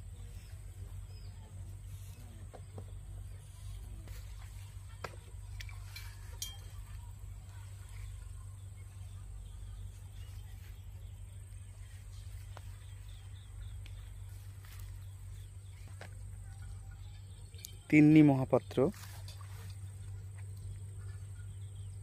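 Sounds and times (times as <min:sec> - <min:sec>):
low steady rumble: 0:00.0 - 0:17.9.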